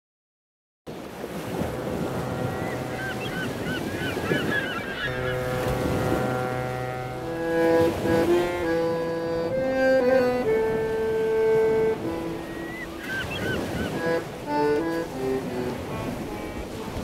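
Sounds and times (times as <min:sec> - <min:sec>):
surf-like noise: 0:00.9 - 0:17.0
sustained music chords: 0:01.5 - 0:03.6, 0:05.1 - 0:17.0.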